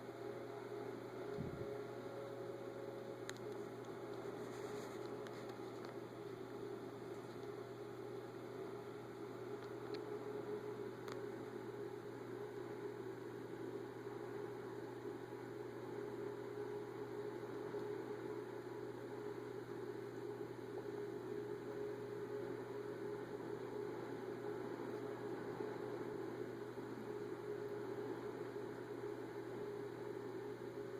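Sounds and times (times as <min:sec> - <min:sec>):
electrical hum with hiss: 0:00.0 - 0:30.9.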